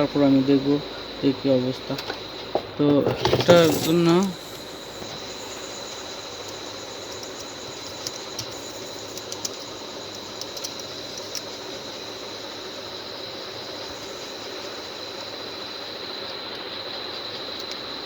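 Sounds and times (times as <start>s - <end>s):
hot air blower hissing: 0.0s - 16.1s.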